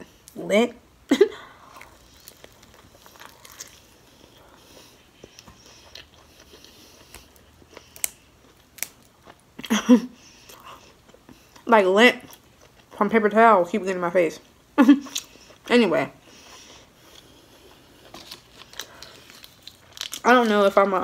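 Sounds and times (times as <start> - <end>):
chewing crunchy food: 1.6 - 13.0, 15.0 - 21.0.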